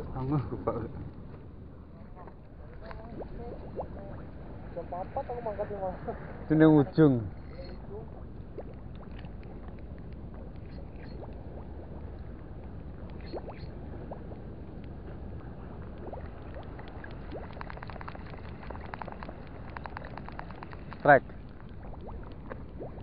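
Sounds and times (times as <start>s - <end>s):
wind and water rumble: 0.0s - 23.0s.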